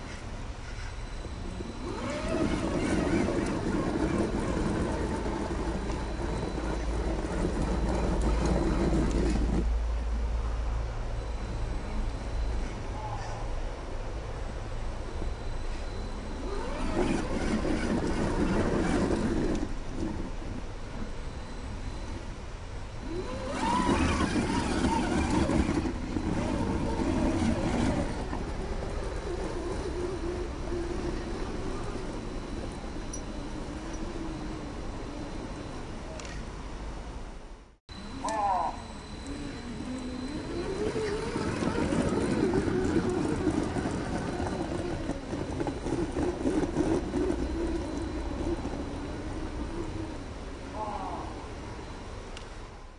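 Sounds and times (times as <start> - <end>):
electric motor whining: 0.8 - 9.7, 15.1 - 36.3, 37.9 - 51.2.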